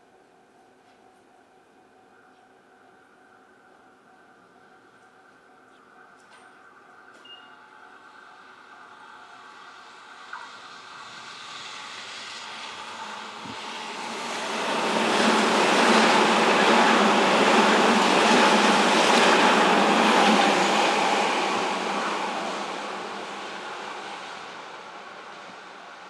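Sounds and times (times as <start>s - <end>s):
electric train passing: 0.1s - 26.0s.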